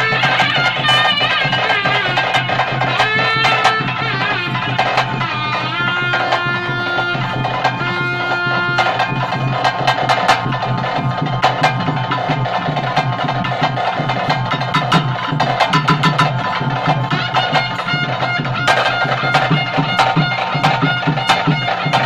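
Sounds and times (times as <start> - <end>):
drums beating fast rhythm: 0.0 - 22.0
melody instrument holding long note: 0.0 - 22.0.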